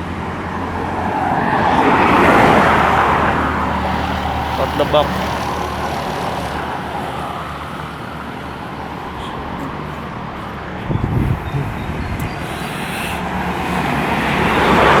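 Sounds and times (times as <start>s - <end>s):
moving road vehicle: 0.0s - 15.0s.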